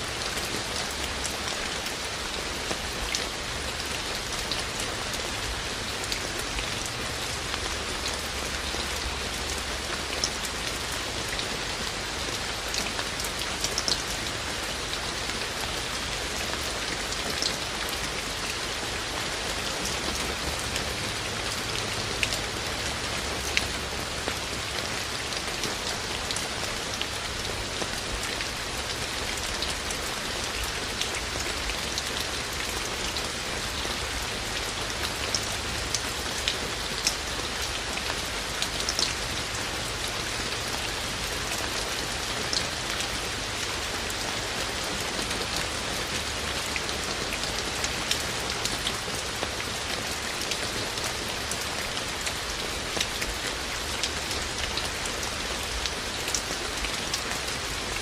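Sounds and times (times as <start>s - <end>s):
raindrops ticking on surfaces: 0.0s - 58.0s
steady rain: 0.0s - 58.0s.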